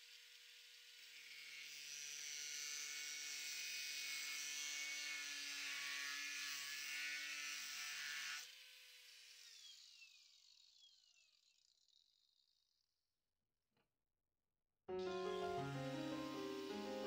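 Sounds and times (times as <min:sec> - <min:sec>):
angle grinder cutting metal: 0:00.0 - 0:12.2, 0:15.0 - 0:17.0.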